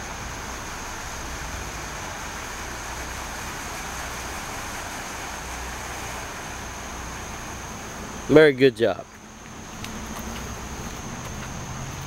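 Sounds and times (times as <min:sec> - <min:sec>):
truck engine rumble: 0:00.0 - 0:12.0
water spray and tyre noise: 0:00.0 - 0:12.0.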